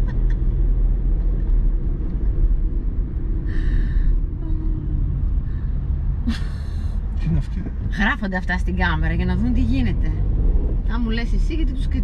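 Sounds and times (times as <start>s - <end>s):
car cabin engine and tyre rumble: 0.0s - 12.0s.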